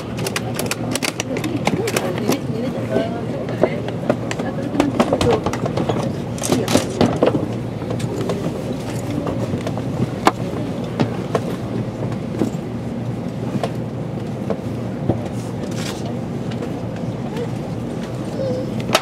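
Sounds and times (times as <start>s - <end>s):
train rumble from inside: 0.0s - 19.0s.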